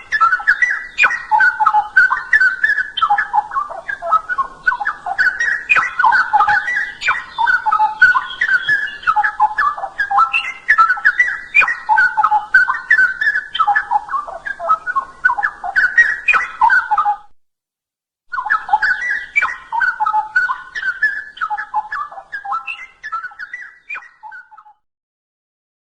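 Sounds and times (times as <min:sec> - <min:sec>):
bird singing whistled phrases: 0:00.0 - 0:17.3, 0:18.3 - 0:24.8.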